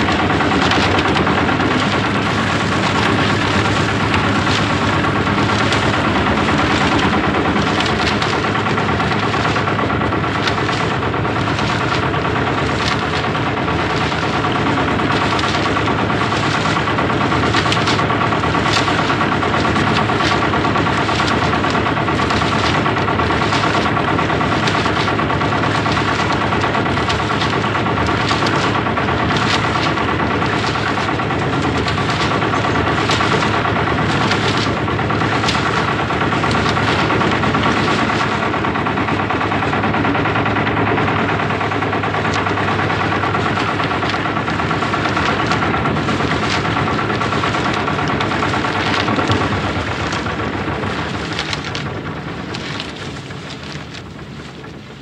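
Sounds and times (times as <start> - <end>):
cement mixer running: 0.0 - 55.0
mixer knocks and clatters: 0.0 - 55.0.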